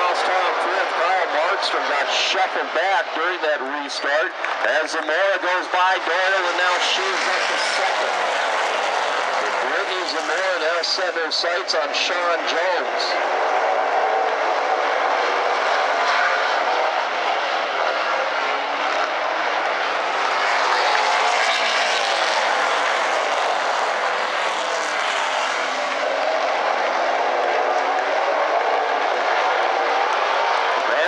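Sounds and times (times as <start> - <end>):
race car engines droning: 0.0 - 31.0.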